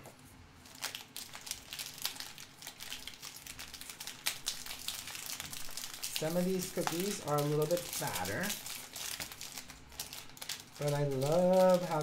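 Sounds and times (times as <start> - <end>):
cellophane bag crinkling: 0.6 - 12.0.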